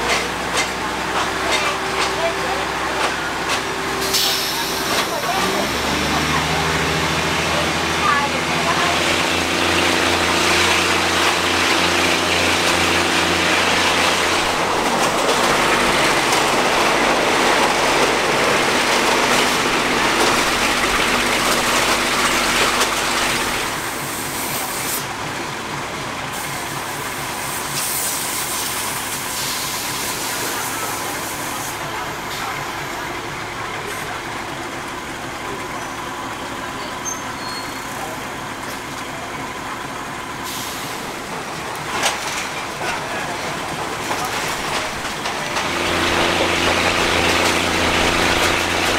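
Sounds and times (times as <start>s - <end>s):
diesel engine drone: 0.0s - 48.9s
train wheels rushing: 0.0s - 48.9s.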